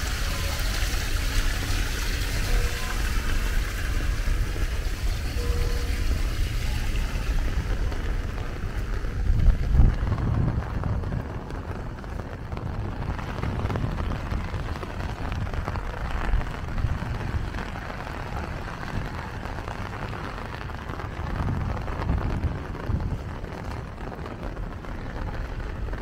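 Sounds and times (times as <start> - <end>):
heavy rain on pavement: 0.0 - 26.0
rain pattering on umbrella: 0.0 - 26.0
steady low rumble: 0.0 - 26.0.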